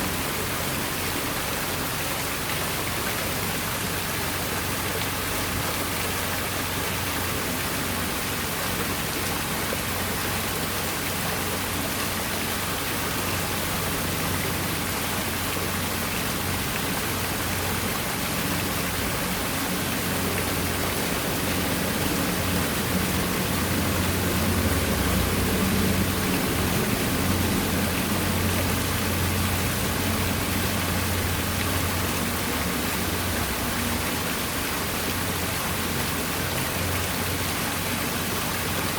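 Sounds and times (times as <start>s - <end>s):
water pouring down waterfall: 0.0s - 38.9s.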